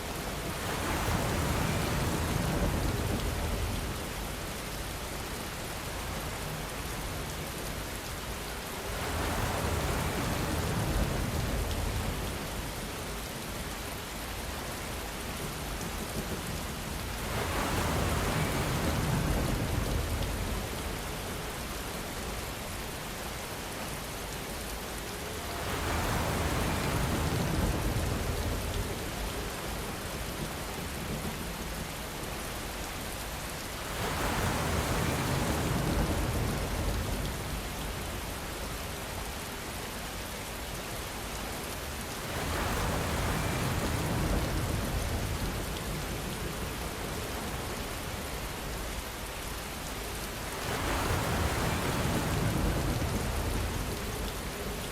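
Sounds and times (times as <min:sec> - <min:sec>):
rain hissing on surfaces: 0:00.0 - 0:54.9.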